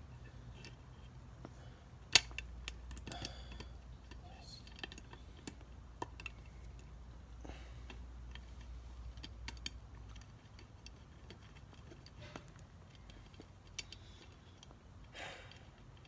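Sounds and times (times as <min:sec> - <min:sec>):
faint steady hum: 0:00.0 - 0:16.0
hand tools clicking on metal parts: 0:00.4 - 0:07.0, 0:07.8 - 0:16.0.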